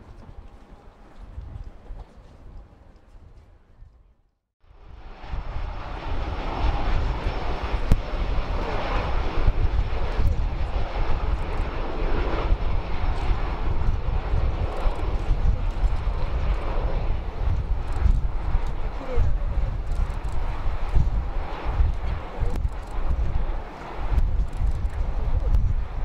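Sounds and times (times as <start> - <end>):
jet engines roaring: 4.8 - 26.0.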